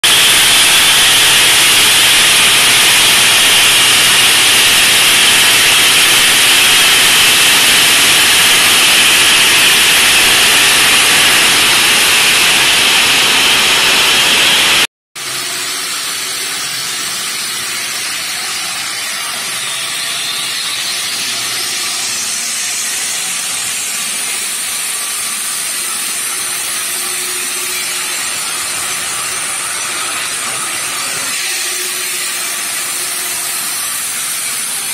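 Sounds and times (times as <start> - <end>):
saw blade grinding stone: 0.0 - 34.9.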